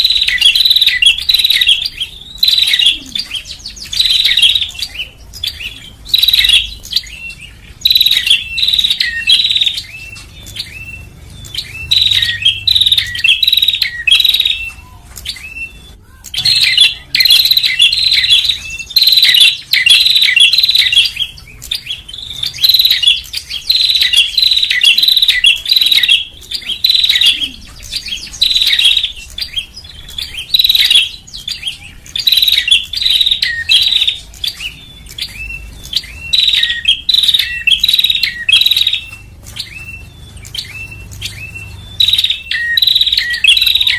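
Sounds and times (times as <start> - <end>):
bird high sharp chirps: 0.0 - 43.9.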